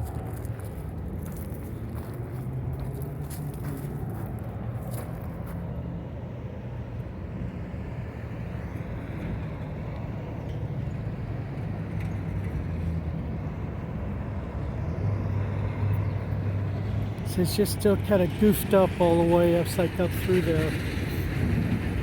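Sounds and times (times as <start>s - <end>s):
street traffic hum: 0.0s - 22.0s.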